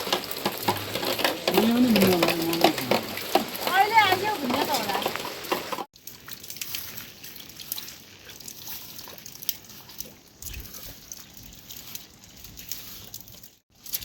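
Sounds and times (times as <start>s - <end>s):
steady wet hiss of rain: 0.0s - 13.6s
rain drips ticking: 0.0s - 14.0s.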